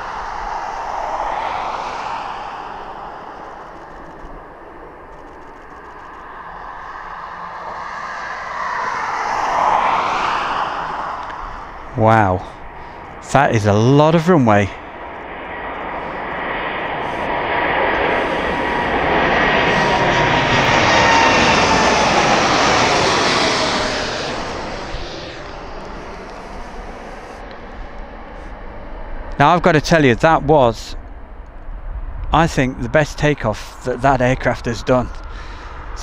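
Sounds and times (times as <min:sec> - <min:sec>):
jet engines at takeoff: 0:00.0 - 0:36.0.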